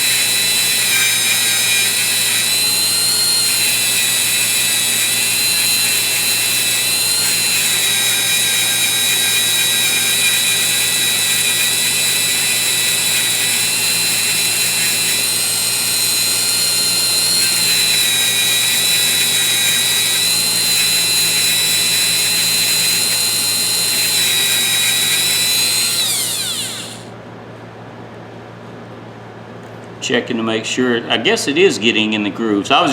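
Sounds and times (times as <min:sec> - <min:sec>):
rotary tool grinding whine: 0:00.0 - 0:27.2.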